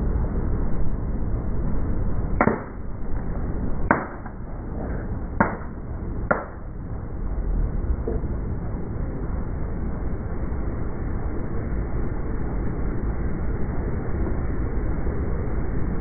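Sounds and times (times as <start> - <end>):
low car rumble: 0.0 - 16.0.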